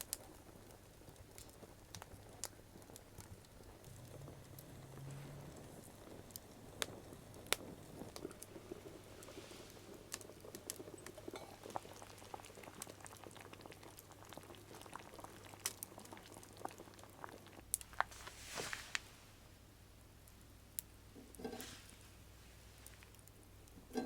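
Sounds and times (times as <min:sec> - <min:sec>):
wood fire crackling and popping: 0:00.0 - 0:19.2, 0:20.2 - 0:24.0.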